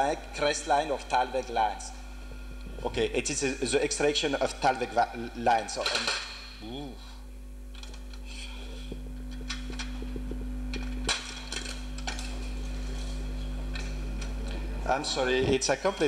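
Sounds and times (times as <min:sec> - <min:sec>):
slide projector humming: 0:00.0 - 0:16.0.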